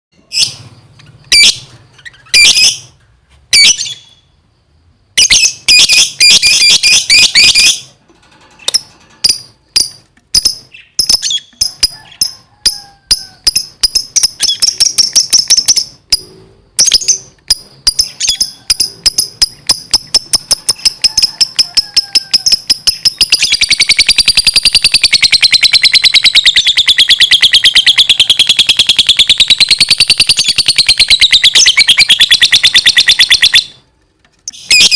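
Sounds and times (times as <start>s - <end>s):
lovebird chirping and trilling: 0.2s - 4.4s, 5.2s - 8.0s, 8.7s - 33.8s, 34.4s - 34.9s.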